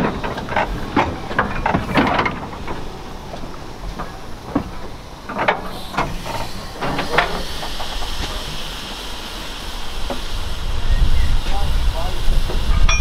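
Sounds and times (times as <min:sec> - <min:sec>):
steam hiss: 0:00.0 - 0:13.0
steam locomotive knocks and clicks: 0:00.0 - 0:13.0.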